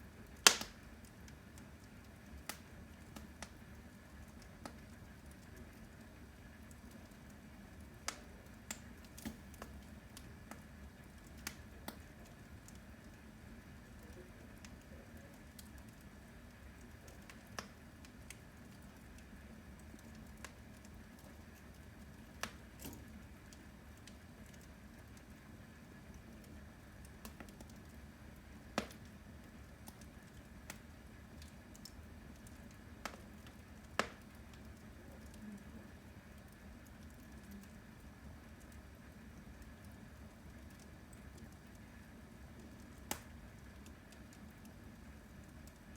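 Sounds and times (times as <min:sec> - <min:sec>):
wood fire pops and crackles: 0:00.0 - 0:45.9.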